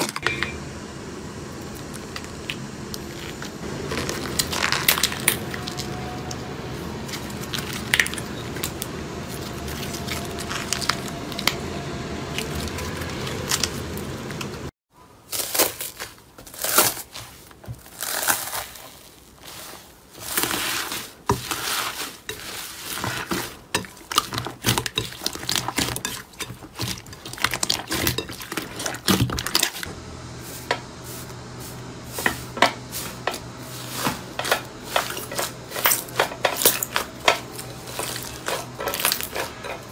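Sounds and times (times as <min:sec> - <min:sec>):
slime crinkling and crunching: 0:03.0 - 0:11.6, 0:12.3 - 0:14.4, 0:15.2 - 0:29.9, 0:33.1 - 0:39.8.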